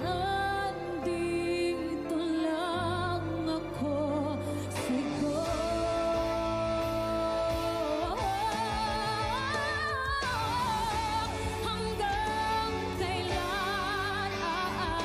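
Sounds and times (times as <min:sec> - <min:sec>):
soft instrumental backing: 0:00.0 - 0:15.0
woman singing ballad: 0:00.0 - 0:15.0.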